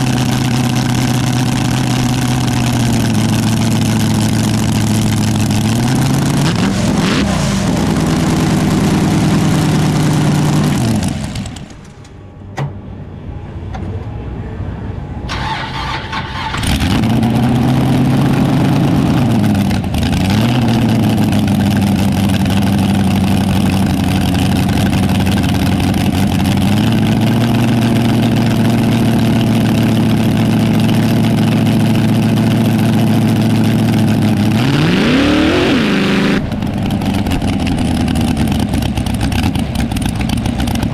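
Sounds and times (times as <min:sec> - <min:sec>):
race car engine idling and revving: 0:00.0 - 0:12.2, 0:15.6 - 0:40.9.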